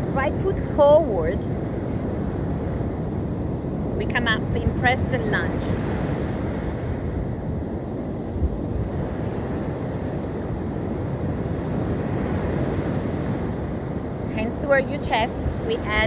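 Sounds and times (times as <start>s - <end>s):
sea surf breaking: 0.0s - 16.0s
wind buffeting microphone: 0.0s - 16.0s.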